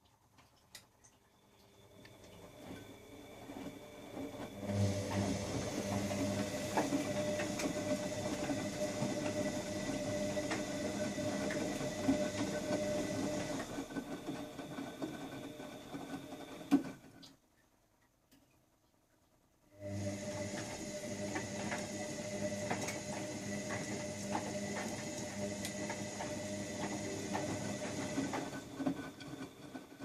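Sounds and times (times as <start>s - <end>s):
washing machine motor humming: 1.4s - 17.3s, 19.7s - 30.0s
washing machine drum tumbling: 2.5s - 17.0s, 20.0s - 30.0s.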